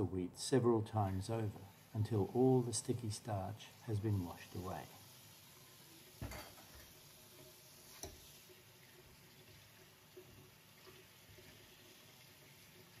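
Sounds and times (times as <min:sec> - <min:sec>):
tap water running into colander: 0:01.0 - 0:13.0.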